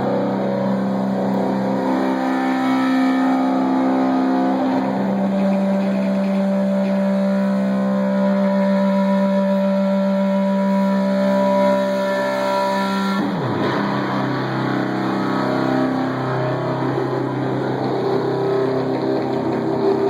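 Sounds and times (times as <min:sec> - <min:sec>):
metal band playing distorted guitar: 0:00.0 - 0:20.0.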